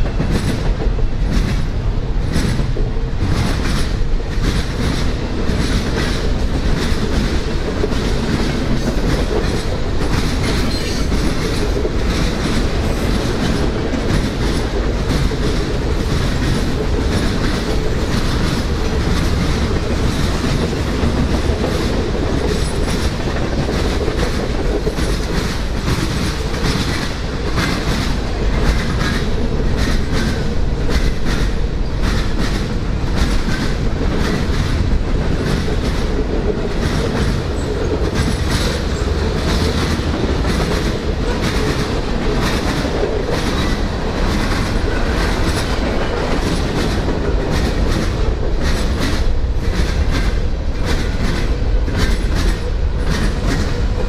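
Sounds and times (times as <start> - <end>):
rail clacking: 0.0 - 54.0
train wheels rumbling on rails: 0.0 - 54.0.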